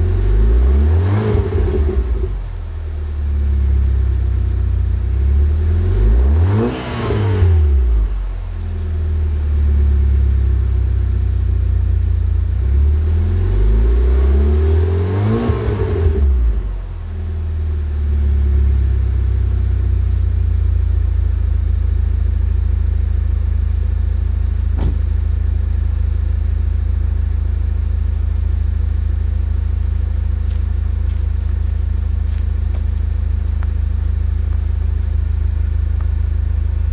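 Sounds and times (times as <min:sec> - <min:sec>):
car engine revving and idling: 0:00.0 - 0:36.9.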